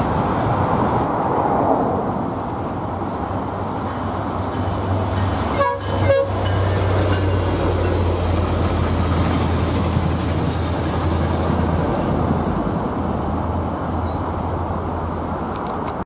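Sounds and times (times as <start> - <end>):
train coaches rolling on rails: 2.2 - 16.0.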